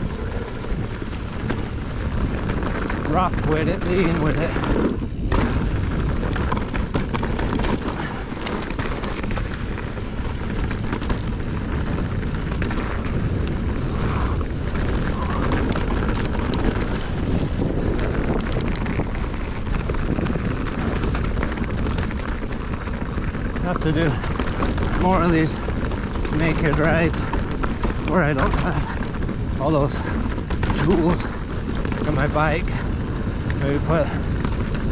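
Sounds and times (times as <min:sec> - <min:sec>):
bike clicks and rattles: 0:00.0 - 0:34.9
tyres rolling over dirt: 0:00.0 - 0:34.9
wind rushing over microphone: 0:00.0 - 0:34.9.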